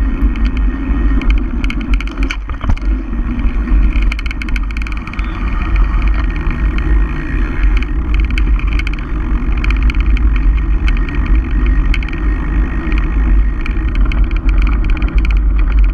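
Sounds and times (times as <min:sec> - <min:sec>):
bike tyres rolling over paving: 0:00.0 - 0:15.9
wind buffeting microphone: 0:00.0 - 0:15.9
bike chain rattling clicks: 0:00.1 - 0:15.9.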